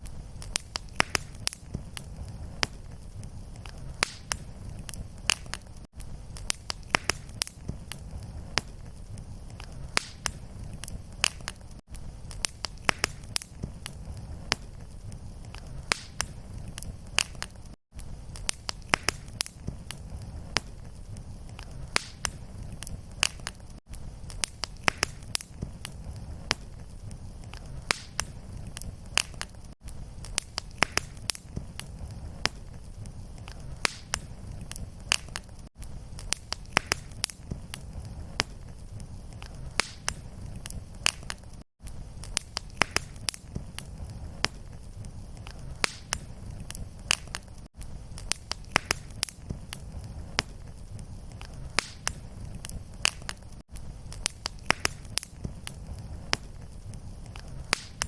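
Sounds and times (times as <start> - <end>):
fire crackling and popping: 0.0 - 58.0
low rumble of flame: 0.0 - 58.0.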